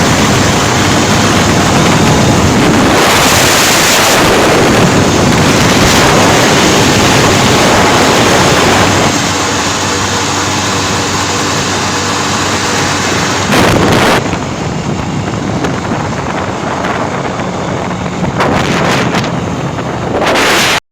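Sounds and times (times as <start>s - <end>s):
wind buffeting microphone: 0.0s - 20.8s.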